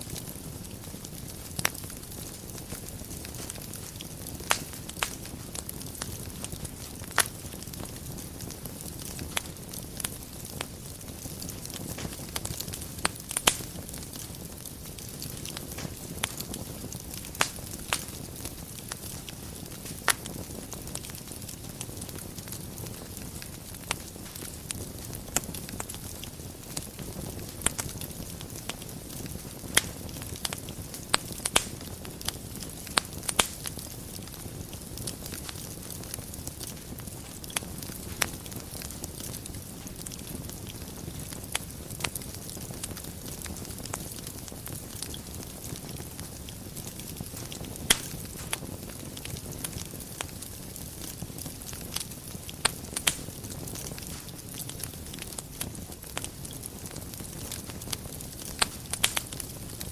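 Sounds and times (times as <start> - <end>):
fire crackling and popping: 0.0 - 59.9
fire flames rumbling: 0.0 - 59.9.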